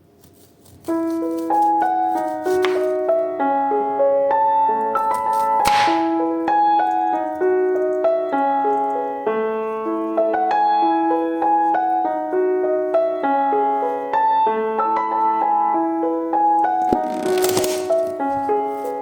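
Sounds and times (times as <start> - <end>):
soft piano music: 0.8 - 19.0.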